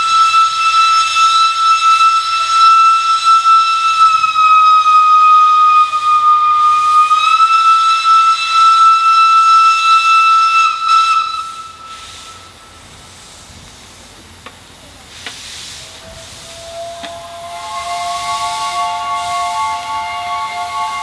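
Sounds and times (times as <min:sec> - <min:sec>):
lower-pitched whistle: 0:00.0 - 0:13.0, 0:15.8 - 0:21.0
steam locomotive whistle: 0:00.0 - 0:13.1, 0:15.6 - 0:21.0
steam hissing: 0:00.0 - 0:21.0.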